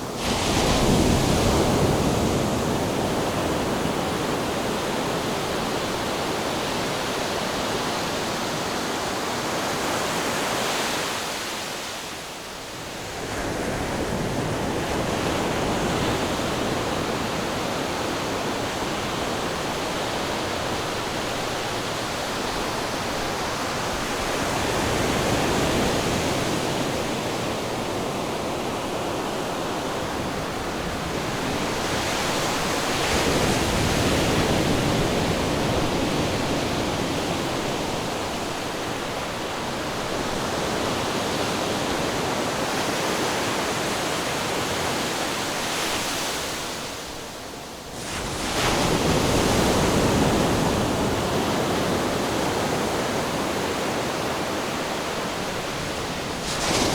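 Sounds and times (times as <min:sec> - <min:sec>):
ocean waves washing on shore: 0:00.0 - 0:56.9.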